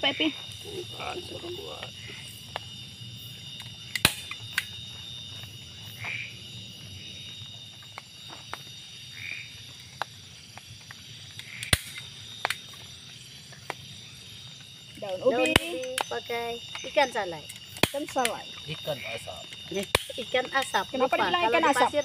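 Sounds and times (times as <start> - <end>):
frogs and insects chorus: 0.0 - 22.0.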